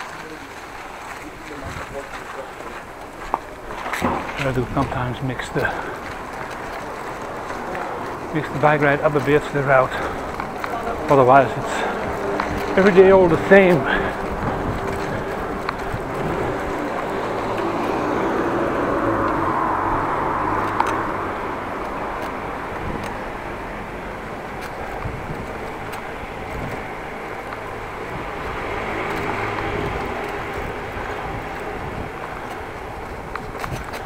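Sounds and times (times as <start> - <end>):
cars passing: 0.0 - 34.0
wind rumble on microphone: 0.0 - 34.0.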